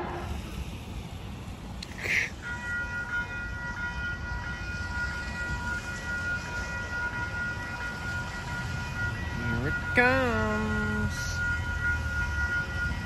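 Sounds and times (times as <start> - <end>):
crossing warning bell ringing: 0.0 - 13.0.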